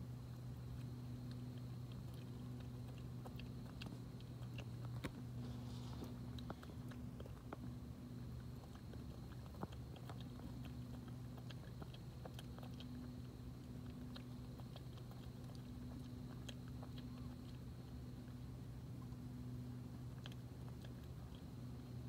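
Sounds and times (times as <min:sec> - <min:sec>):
animal crunching and chewing food: 0:00.0 - 0:22.0
steady low hum: 0:00.0 - 0:22.0.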